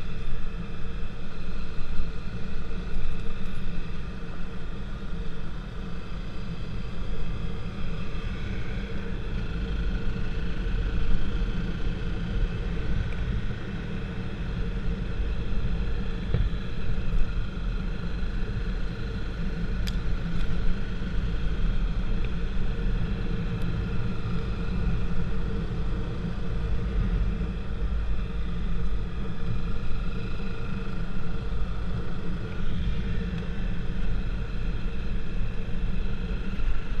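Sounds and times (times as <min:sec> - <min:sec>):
even drone: 0:00.0 - 0:37.0
vehicle low rumble: 0:00.0 - 0:37.0.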